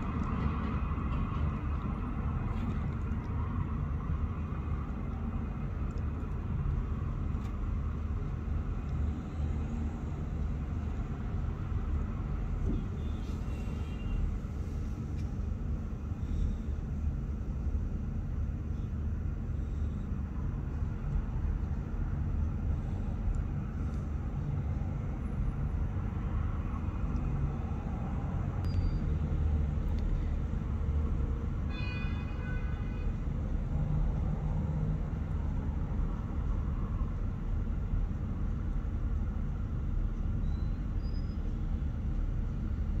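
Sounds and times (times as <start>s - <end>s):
low background rumble: 0.0s - 31.8s, 32.6s - 43.0s.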